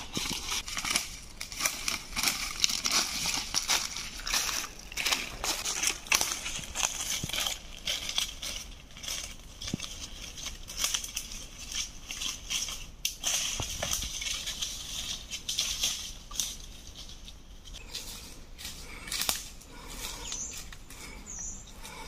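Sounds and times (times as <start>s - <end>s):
footsteps on dry leaves: 0.0s - 22.0s.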